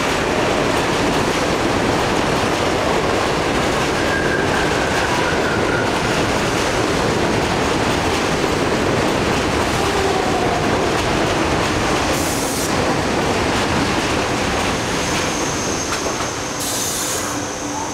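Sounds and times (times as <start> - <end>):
train wheels clattering on rails: 0.0 - 17.5.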